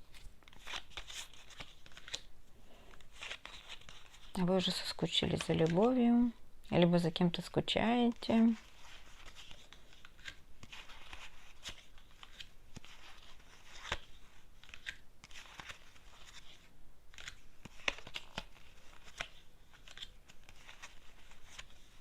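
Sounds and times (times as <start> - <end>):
cards rustling: 0.0 - 6.0, 8.1 - 22.0.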